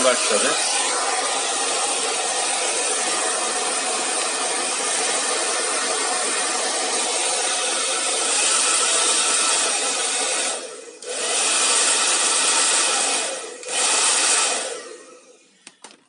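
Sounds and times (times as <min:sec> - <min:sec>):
hair dryer running: 0:00.0 - 0:15.6.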